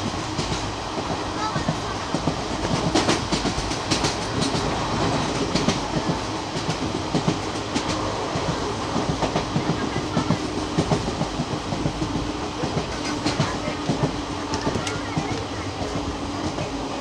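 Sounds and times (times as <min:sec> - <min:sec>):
train rumble: 0:00.0 - 0:17.0
train wheels clicking on rail joints: 0:00.0 - 0:17.0.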